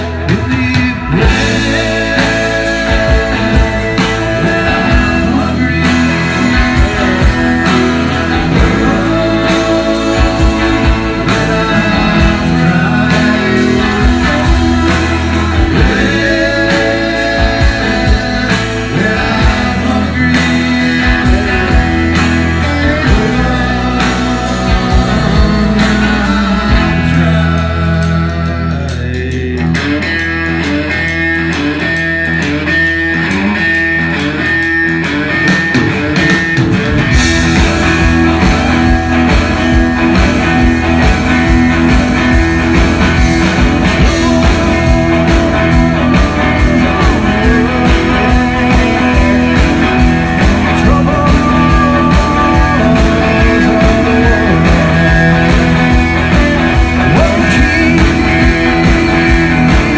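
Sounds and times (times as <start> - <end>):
bass guitar: 0.0 - 59.9
drums and cymbals: 0.0 - 59.9
electric guitars: 0.0 - 59.9.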